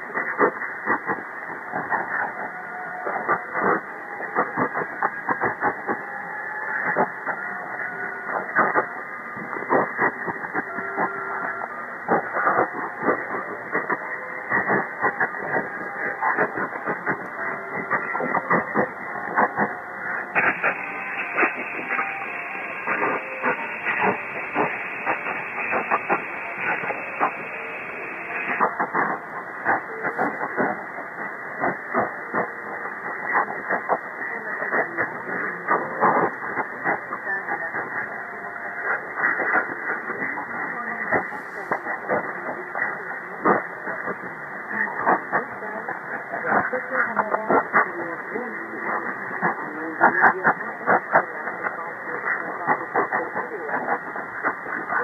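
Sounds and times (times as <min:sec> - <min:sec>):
faint radio tones: 0:00.0 - 0:55.0
muffled radio hiss: 0:00.0 - 0:55.0
static crackles: 0:00.0 - 0:55.0.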